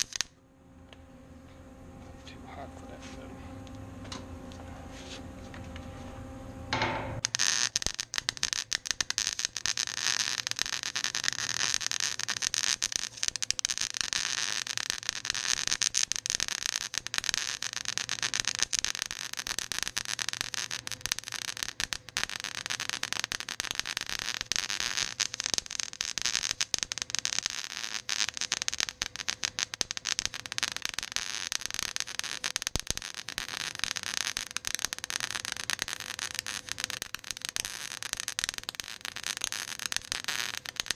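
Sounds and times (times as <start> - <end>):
welding arc crackling: 0.0 - 0.4, 6.7 - 40.9.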